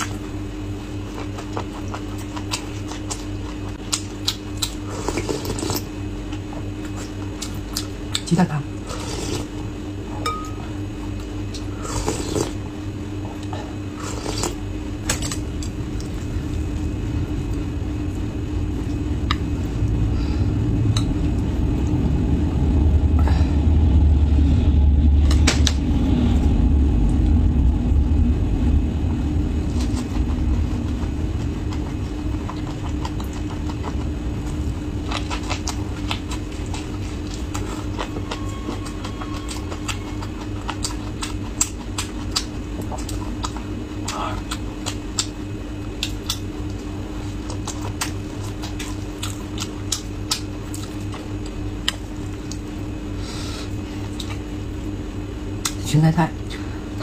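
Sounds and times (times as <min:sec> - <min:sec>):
low rumble and hum: 0:00.0 - 0:57.0.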